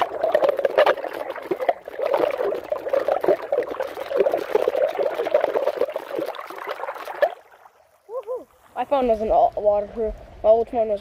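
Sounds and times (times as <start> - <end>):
floodwater running and gurgling: 0.0 - 9.9.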